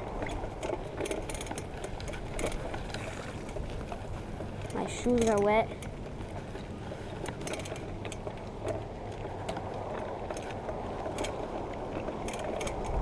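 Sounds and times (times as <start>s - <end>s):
bike tyres rolling on wet pavement: 0.0s - 13.0s
small clicks and ticks: 0.0s - 13.0s.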